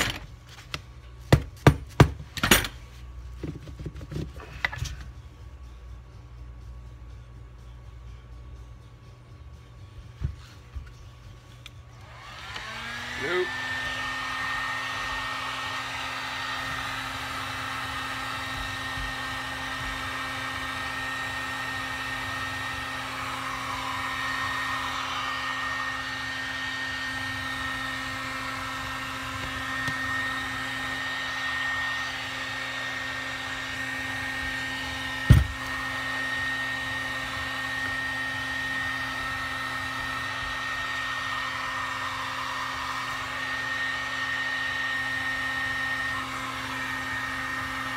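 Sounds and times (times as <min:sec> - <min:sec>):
heat gun fan whine: 0:00.0 - 0:47.9.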